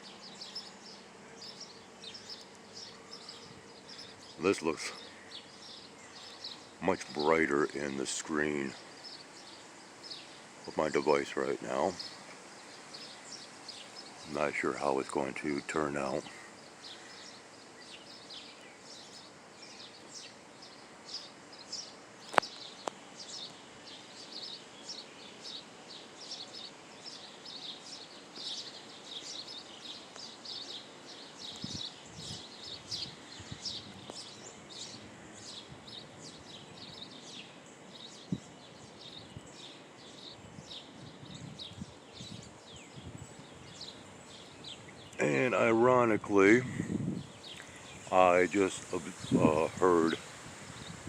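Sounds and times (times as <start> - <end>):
birds chirping and calling: 0.0 - 51.0.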